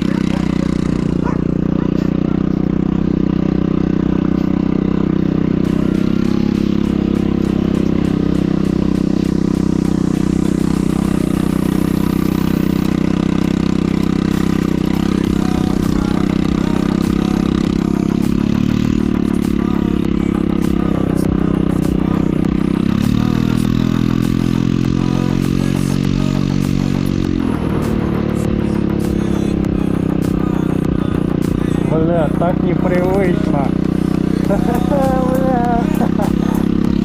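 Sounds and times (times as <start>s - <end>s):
scooter engine running: 0.0s - 37.0s.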